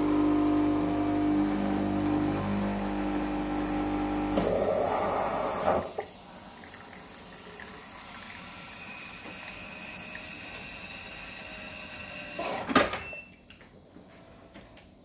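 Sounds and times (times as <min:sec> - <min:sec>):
vending machine humming: 0:00.0 - 0:12.6.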